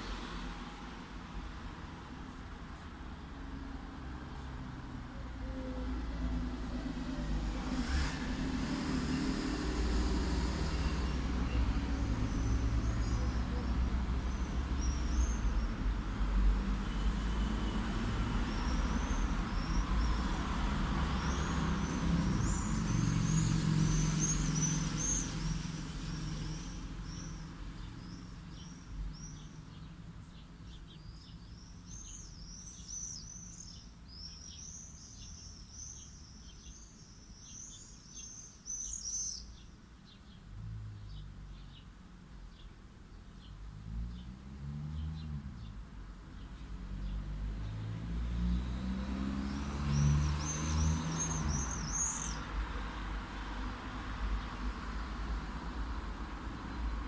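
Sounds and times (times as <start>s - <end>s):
road traffic rumbling: 0.0s - 38.9s, 39.5s - 57.0s
small birds chirping: 8.8s - 57.0s.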